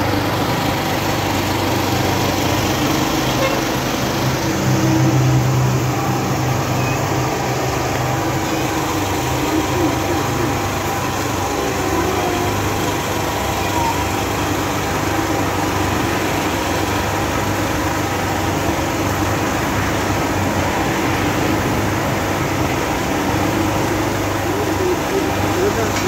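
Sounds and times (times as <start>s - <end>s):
machine humming steadily: 0.0s - 26.0s.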